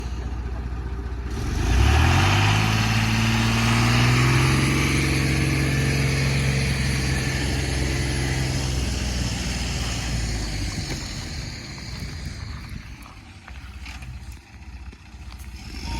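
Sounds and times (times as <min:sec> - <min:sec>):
diesel engine revving: 0:00.0 - 0:15.9.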